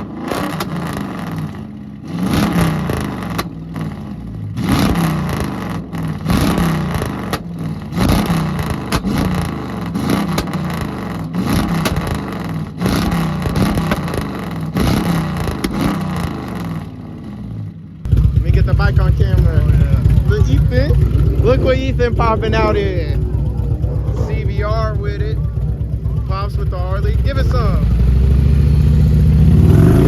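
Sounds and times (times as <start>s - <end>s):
exhaust pops: 0.0s - 16.9s, 18.0s - 28.2s
car engine revving: 0.0s - 30.0s.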